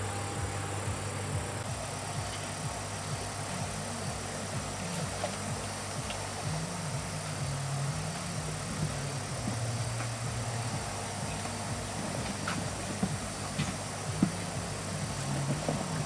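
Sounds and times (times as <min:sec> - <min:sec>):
motor droning: 0:00.0 - 0:16.0.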